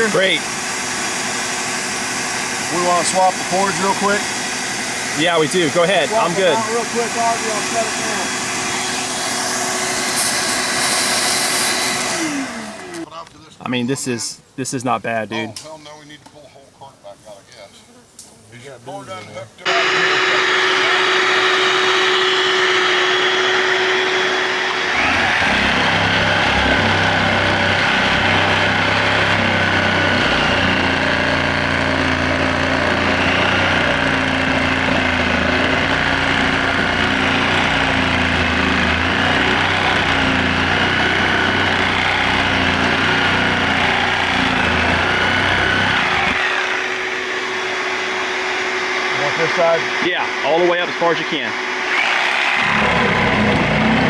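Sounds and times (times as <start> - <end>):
lower-pitched power tool: 0.0 - 13.1, 19.7 - 54.0
power tool motor whine: 0.0 - 13.1, 19.7 - 54.0.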